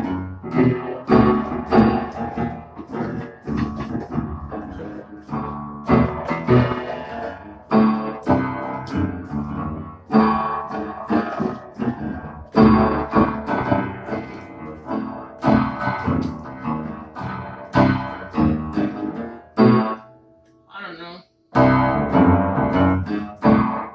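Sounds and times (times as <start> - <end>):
piano chords and notes: 0.0 - 20.7, 21.5 - 23.9.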